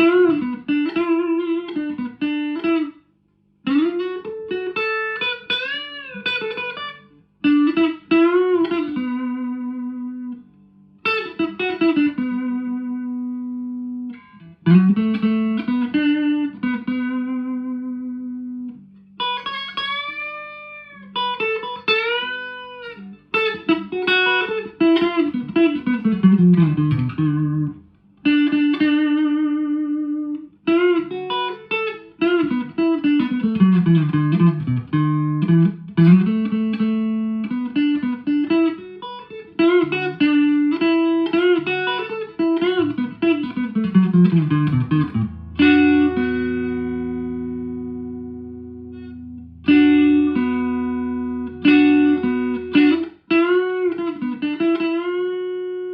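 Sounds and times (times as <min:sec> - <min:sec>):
electric guitar lead phrases: 0:00.0 - 0:03.0, 0:03.6 - 0:55.9.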